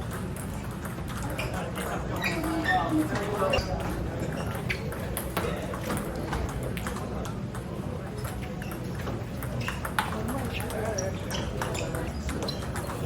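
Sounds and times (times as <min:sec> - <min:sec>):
table tennis ball hitting paddles: 0:00.0 - 0:13.0.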